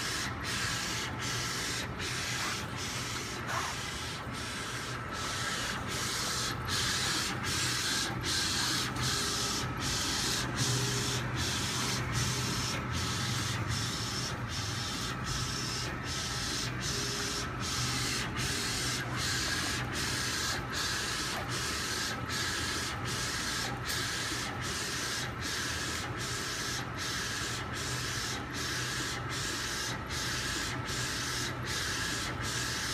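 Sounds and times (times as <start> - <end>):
printer carriage hissing: 0.0 - 32.9.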